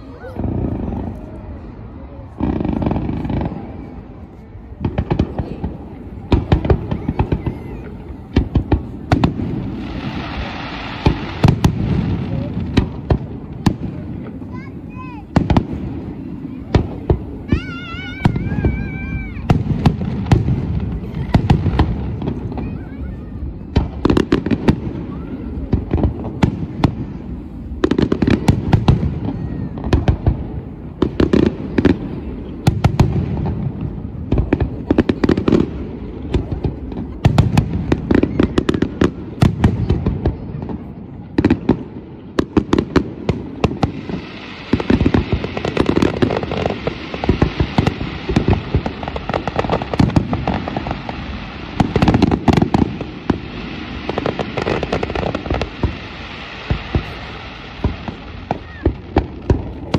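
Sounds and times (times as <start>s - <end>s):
fireworks bursting with echo: 0.0s - 59.9s
steady hiss: 2.5s - 59.9s.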